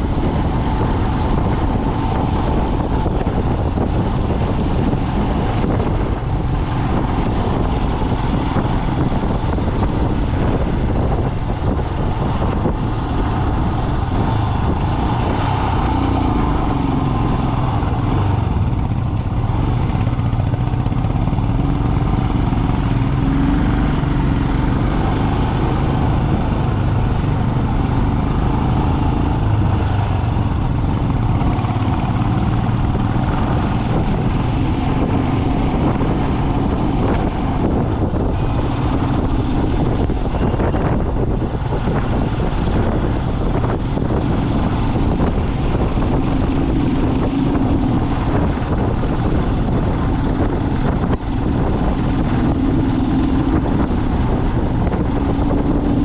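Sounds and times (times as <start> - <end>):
road noise: 0.0 - 56.0
vehicle engine: 0.0 - 56.0.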